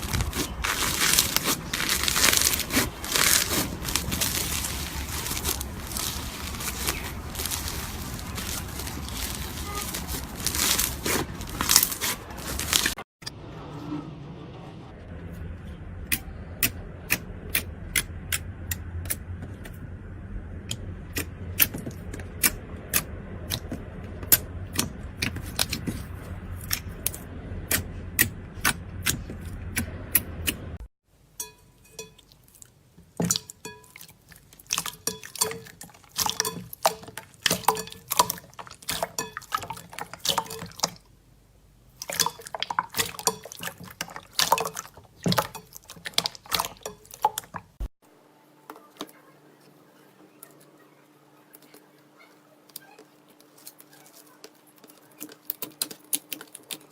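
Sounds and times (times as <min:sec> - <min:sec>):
steady low hum: 0:00.0 - 0:53.8.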